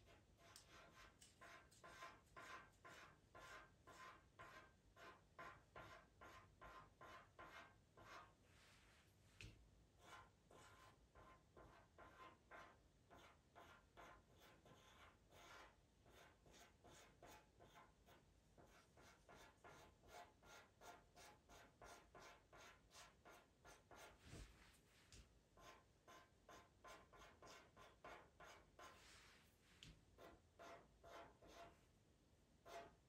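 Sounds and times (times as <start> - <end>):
pencil scratching on paper: 0.0 - 8.4, 10.0 - 24.5, 25.6 - 29.3, 30.2 - 31.8, 32.6 - 33.0.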